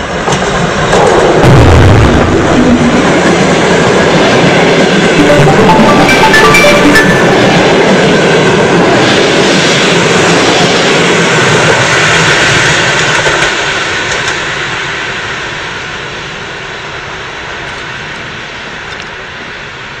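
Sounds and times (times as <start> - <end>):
passenger train rushing past: 0.0 - 18.8.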